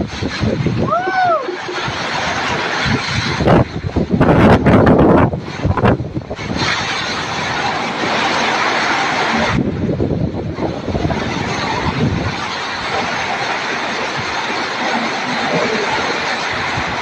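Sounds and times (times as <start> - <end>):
heavy rain: 0.0 - 17.0
wind buffeting microphone: 0.0 - 17.0.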